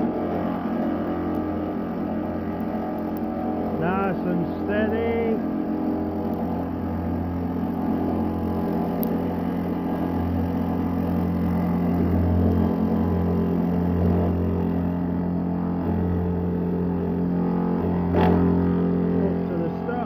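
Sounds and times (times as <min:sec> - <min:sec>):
drill motor hum: 0:00.0 - 0:20.0.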